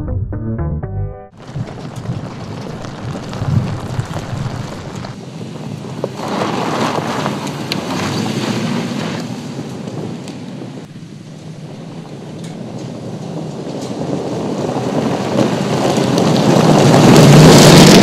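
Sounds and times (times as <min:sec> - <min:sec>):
tyres on loose gravel: 0:01.4 - 0:18.0.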